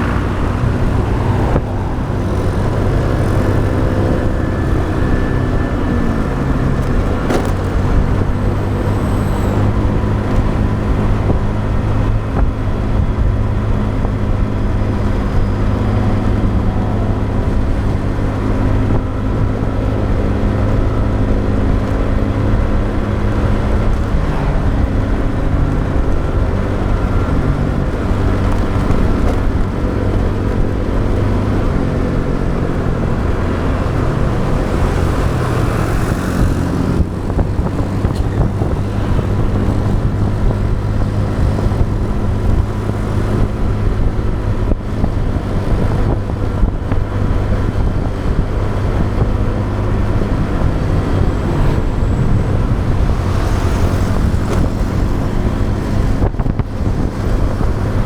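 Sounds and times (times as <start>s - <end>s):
motorbike engine running: 0.0s - 58.0s
wind and road noise: 0.0s - 58.0s.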